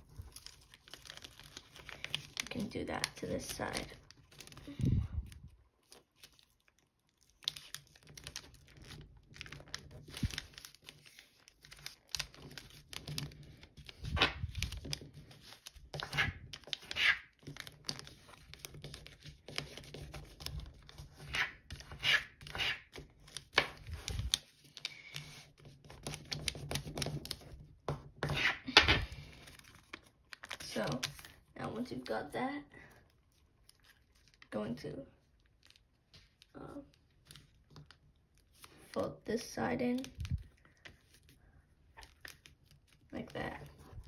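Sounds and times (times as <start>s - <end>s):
foil paper crinkling: 0.0s - 27.6s, 29.0s - 31.4s, 32.8s - 34.6s, 35.2s - 39.0s.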